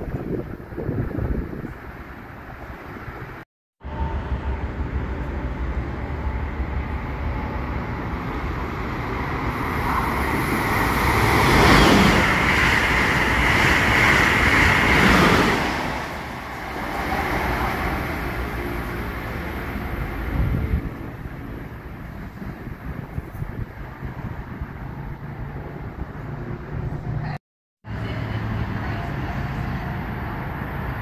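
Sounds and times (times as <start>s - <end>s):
passenger train passing: 0.0s - 27.3s, 27.9s - 31.0s.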